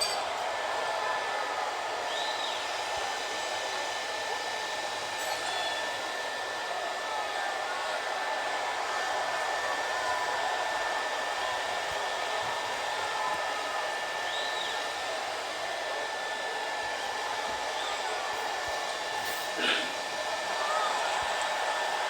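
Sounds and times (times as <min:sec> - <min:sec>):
crowd applause: 0:00.0 - 0:22.0.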